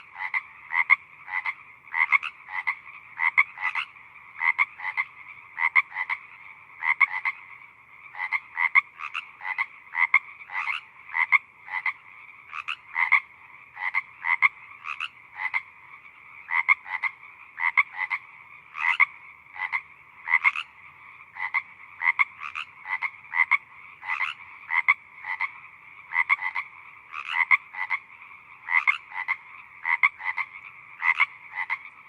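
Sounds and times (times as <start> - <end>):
frogs croaking: 0.0 - 32.0
loud short frog croaks: 0.0 - 32.0.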